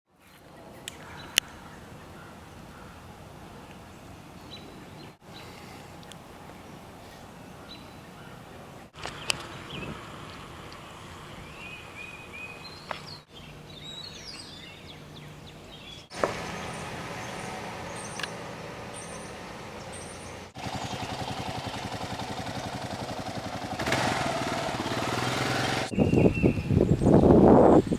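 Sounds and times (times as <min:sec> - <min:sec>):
outdoor background noise: 0:00.1 - 0:27.9
birds chirping: 0:00.2 - 0:27.9.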